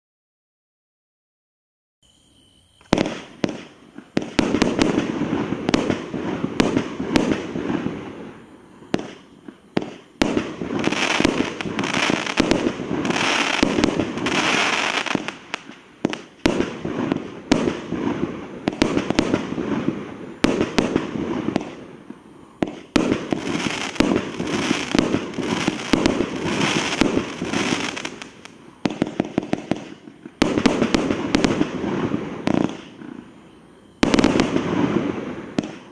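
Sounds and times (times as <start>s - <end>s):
fireworks launching and bursting: 2.8s - 35.9s.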